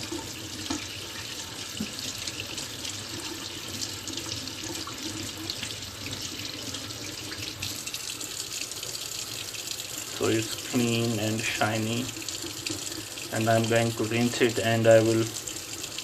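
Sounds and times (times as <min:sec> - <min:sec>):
tap water running into sink: 0:00.0 - 0:16.0.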